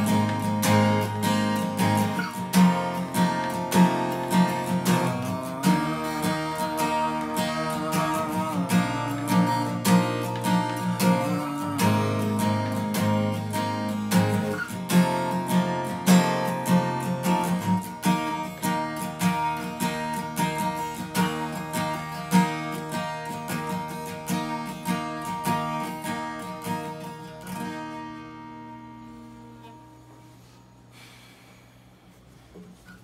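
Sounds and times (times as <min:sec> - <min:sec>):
acoustic guitar playing: 0:00.0 - 0:31.1.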